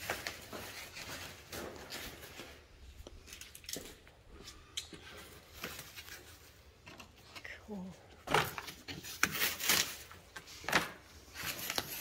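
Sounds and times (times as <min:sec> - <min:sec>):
cardboard and foam rustling: 0:00.0 - 0:12.0.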